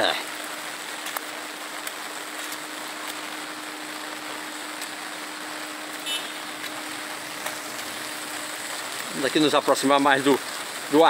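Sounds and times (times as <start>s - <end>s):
light rain on wet pavement: 0.0s - 11.0s
small drip ticks: 0.0s - 11.0s.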